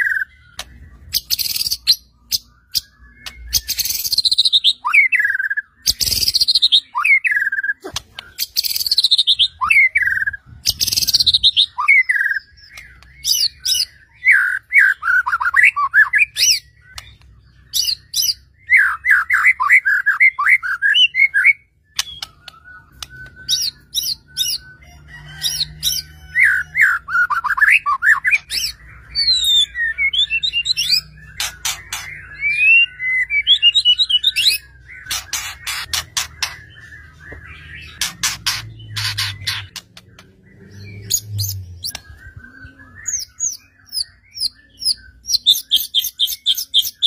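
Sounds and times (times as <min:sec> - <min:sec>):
bird singing whistled notes: 0:00.0 - 0:47.0.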